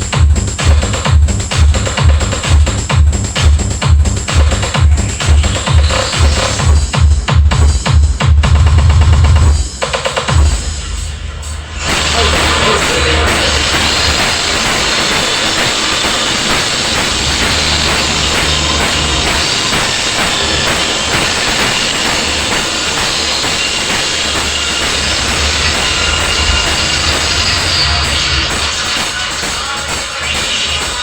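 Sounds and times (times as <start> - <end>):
deep sub-bass: 0.0 - 29.0
heavy drum beat: 0.0 - 31.0
loud remix music on speakers: 0.0 - 31.0.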